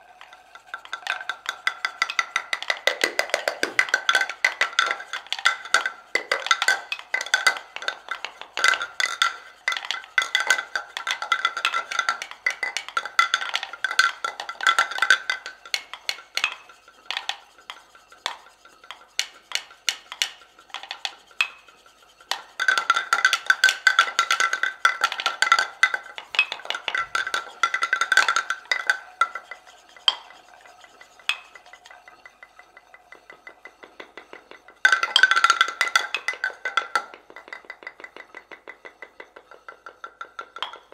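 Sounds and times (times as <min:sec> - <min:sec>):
pestles knocking on mortars: 0:00.8 - 0:32.0, 0:33.0 - 0:40.9.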